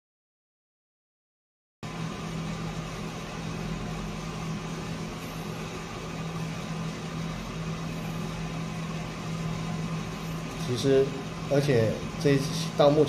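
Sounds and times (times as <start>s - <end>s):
coffee roaster motor and fan hum: 1.8s - 13.0s.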